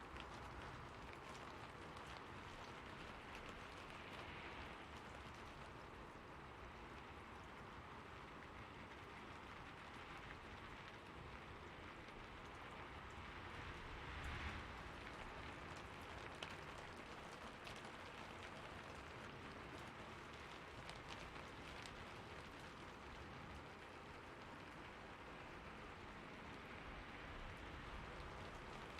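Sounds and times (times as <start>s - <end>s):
rain on a rooftop: 0.0s - 28.9s.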